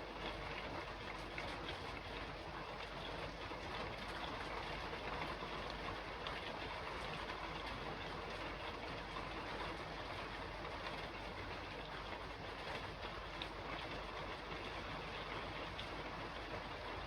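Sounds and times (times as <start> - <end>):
rain on a roof: 0.0 - 17.0.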